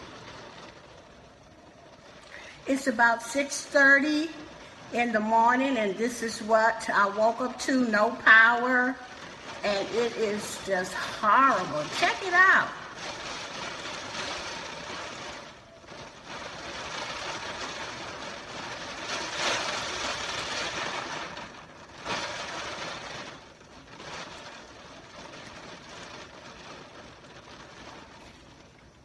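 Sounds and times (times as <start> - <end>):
rain: 0.0 - 29.0.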